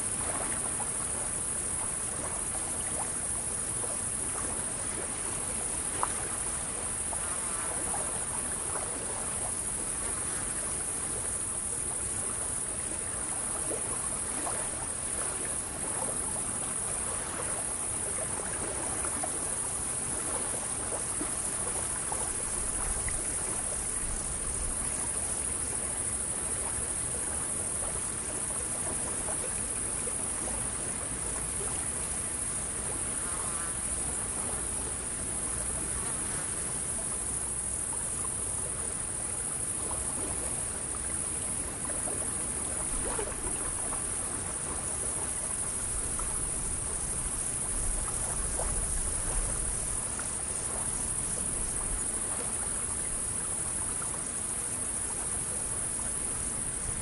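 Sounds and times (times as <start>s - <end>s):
insect chorus: 0.0s - 57.0s
water lapping at a pier: 0.0s - 57.0s.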